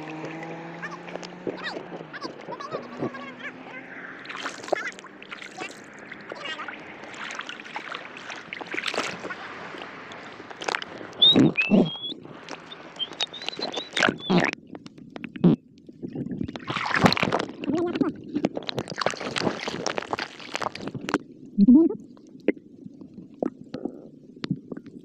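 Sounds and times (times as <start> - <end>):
water sloshing and splashing: 0.0 - 15.4, 16.0 - 23.6
water gurgling: 0.0 - 25.0.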